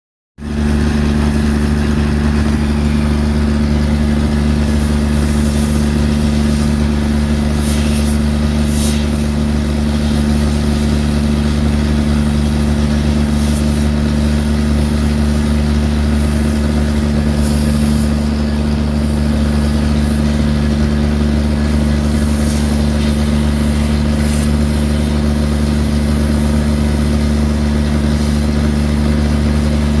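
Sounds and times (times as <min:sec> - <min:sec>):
excavator diesel engine humming: 0:00.4 - 0:30.0.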